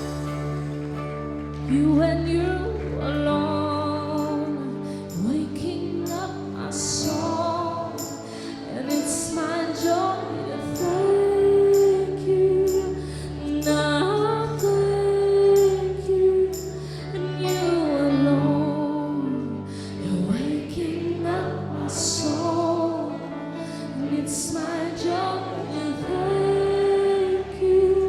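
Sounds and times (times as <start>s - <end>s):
keyboard chords: 0.0s - 28.0s
woman singing: 1.6s - 28.0s.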